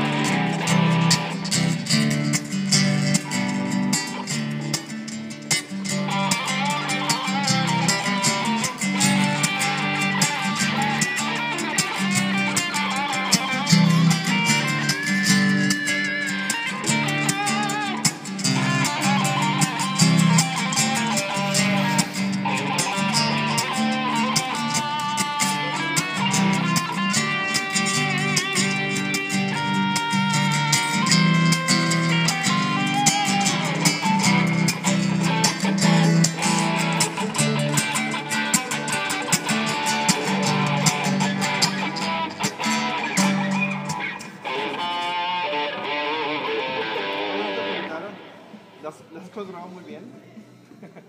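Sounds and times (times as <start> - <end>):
electric guitar lead melody: 0.0 - 48.8.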